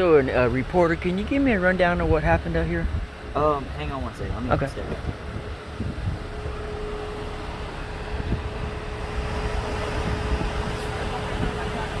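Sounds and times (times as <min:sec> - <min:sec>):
low rumble of vehicles: 0:00.0 - 0:12.0
steady mid-pitched hum: 0:00.0 - 0:12.0.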